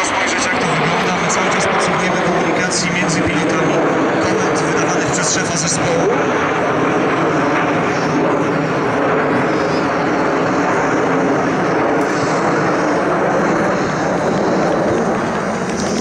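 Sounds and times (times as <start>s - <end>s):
jets flying in formation: 0.0s - 16.0s.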